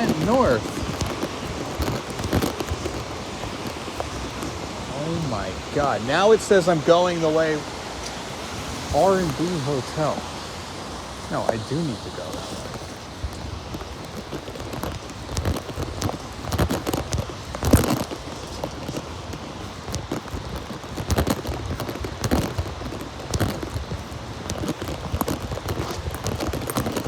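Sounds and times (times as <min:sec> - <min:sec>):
footsteps on wet pavement: 0:00.0 - 0:27.0
rain hissing: 0:00.0 - 0:27.0.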